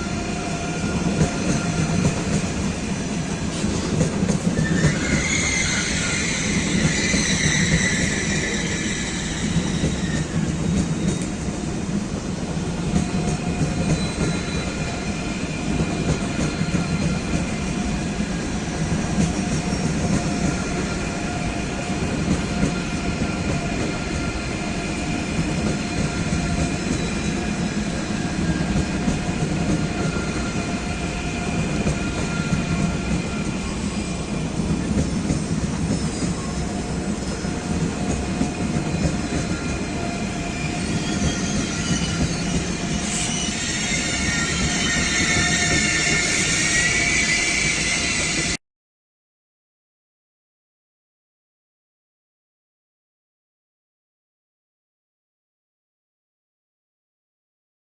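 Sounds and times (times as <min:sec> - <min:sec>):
train wheel squeal: 0:00.0 - 0:11.8, 0:12.9 - 0:48.6
train rumbling over tracks: 0:00.0 - 0:48.6.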